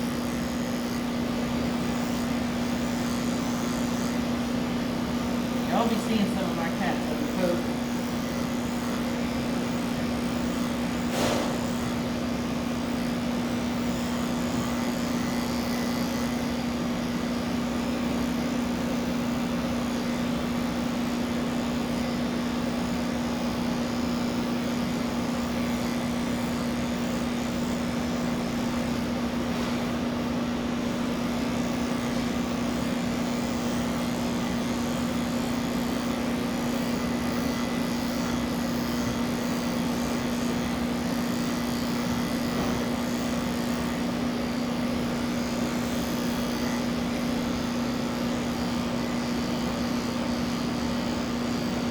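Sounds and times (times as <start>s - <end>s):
electric clippers buzzing: 0.0s - 51.9s.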